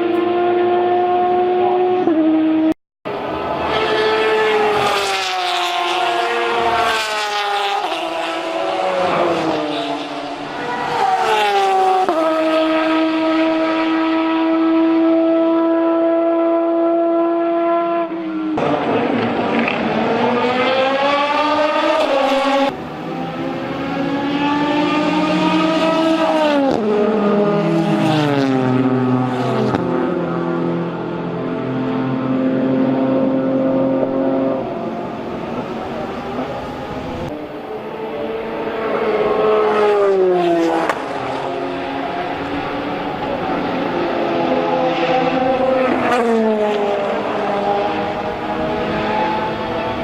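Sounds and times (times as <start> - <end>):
race car engine downshifting: 0.0 - 50.0.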